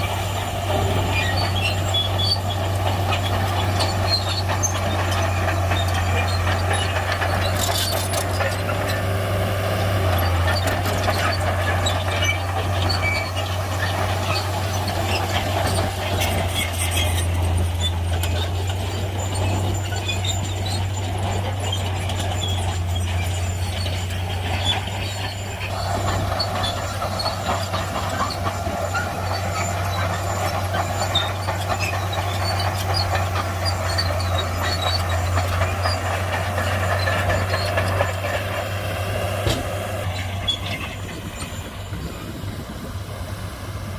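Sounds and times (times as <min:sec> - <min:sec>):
short high squeaks: 0:00.0 - 0:42.2
bulldozer diesel engine under load: 0:00.0 - 0:43.9.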